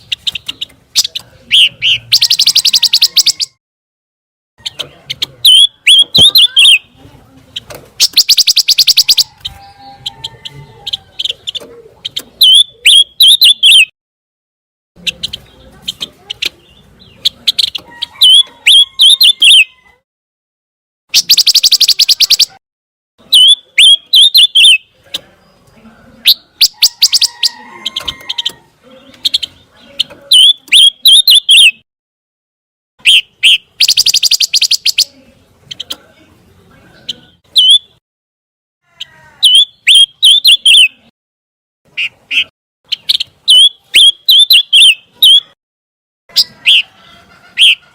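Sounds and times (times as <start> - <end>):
bird singing trills and chirps: 0.0 - 3.6, 4.6 - 13.9, 15.0 - 19.9, 21.1 - 22.6, 23.2 - 31.8, 33.0 - 38.0, 39.0 - 41.1, 41.9 - 45.6, 46.3 - 46.9.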